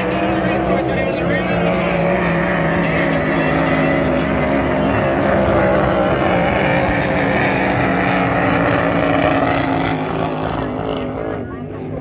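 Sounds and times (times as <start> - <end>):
powerboat engines droning: 0.0 - 12.0.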